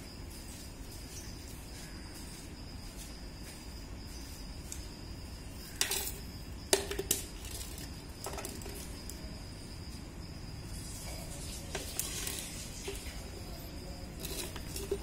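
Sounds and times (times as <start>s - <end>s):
high insect chirring: 0.0s - 15.0s.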